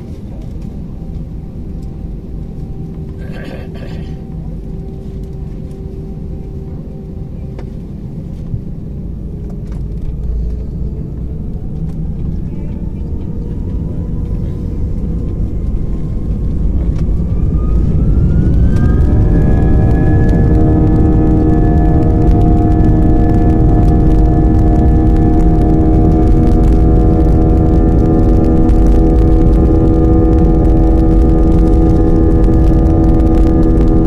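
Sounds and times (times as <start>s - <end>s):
jet engine rumble: 0.0s - 34.0s
jet engine whine rising: 0.0s - 34.0s.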